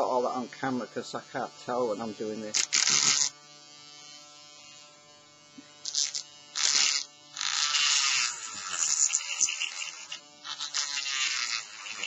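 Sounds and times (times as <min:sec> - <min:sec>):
cutting tool motor humming: 0:00.0 - 0:12.0.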